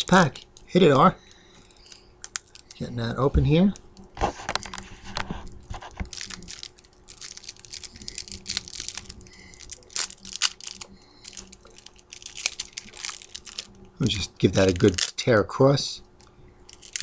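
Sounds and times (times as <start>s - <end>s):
cellophane wrapper crinkling: 0.0s - 15.6s, 16.2s - 17.0s.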